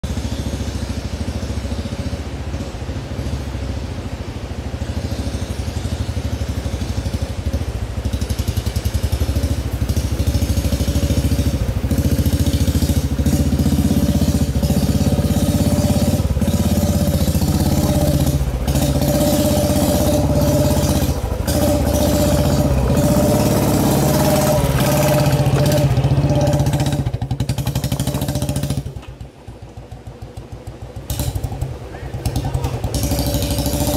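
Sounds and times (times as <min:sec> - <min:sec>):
motorcycle engine at low revs: 0:00.0 - 0:33.9.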